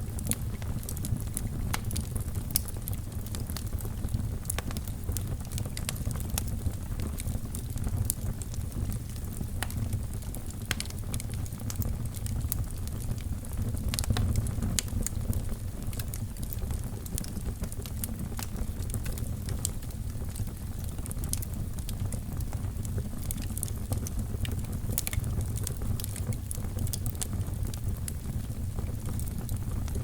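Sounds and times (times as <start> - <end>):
fire crackling and popping: 0.0 - 30.0
low rumble of flames: 0.0 - 30.0.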